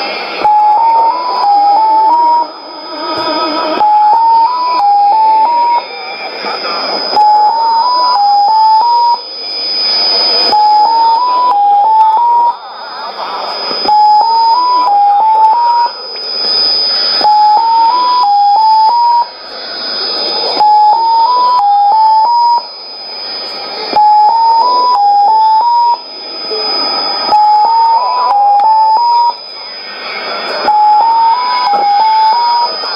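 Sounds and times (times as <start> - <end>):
beeping tones stepping in pitch: 0.0 - 32.9
radio hiss and static: 0.0 - 32.9
steady high whistle: 0.0 - 32.9.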